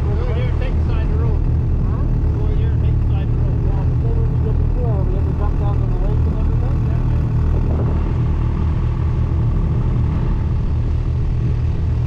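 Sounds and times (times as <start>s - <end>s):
snowmobile engine droning: 0.0s - 12.0s.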